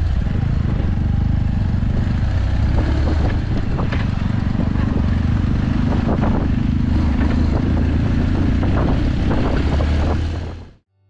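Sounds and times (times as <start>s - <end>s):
motorcycle engine rumbling: 0.0s - 10.8s.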